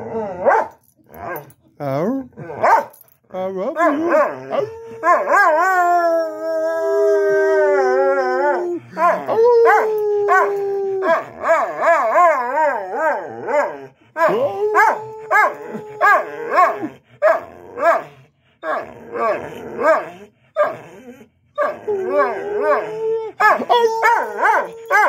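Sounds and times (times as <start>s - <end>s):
dog howling: 3.7s - 25.0s.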